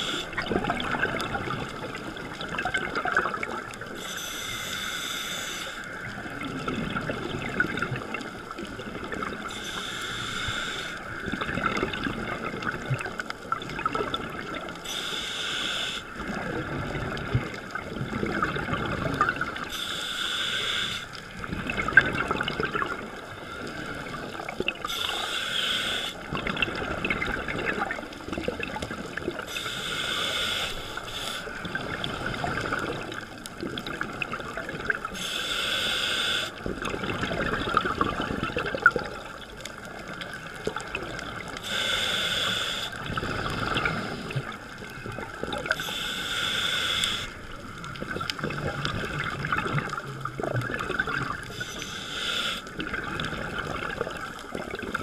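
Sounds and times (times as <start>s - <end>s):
muffled underwater noise: 0.0s - 55.0s
regulator hissing and bubbling: 0.0s - 55.0s.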